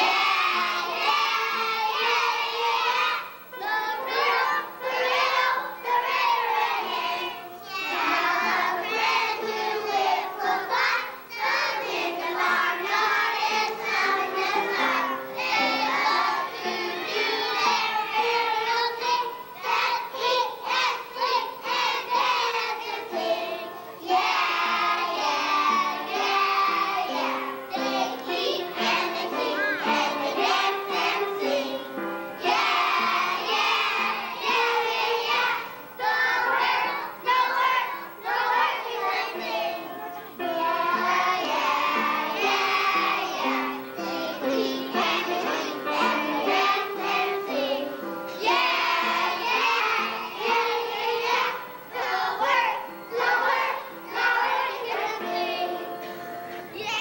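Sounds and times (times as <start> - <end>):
children singing: 0.0 - 57.0
musical accompaniment: 0.0 - 57.0.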